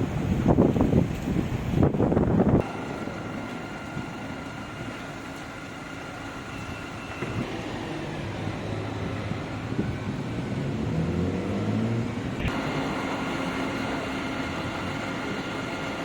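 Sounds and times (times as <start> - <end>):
mechanical hum with high whine: 0.0 - 16.0
wind buffeting microphone: 0.0 - 16.0.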